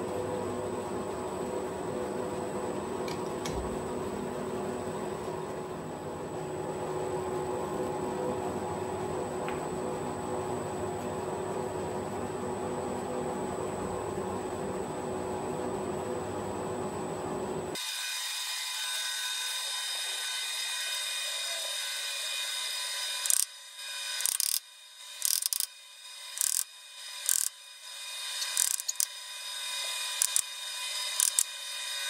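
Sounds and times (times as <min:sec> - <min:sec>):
steady workshop noise: 0:00.0 - 0:15.0, 0:16.8 - 0:32.0.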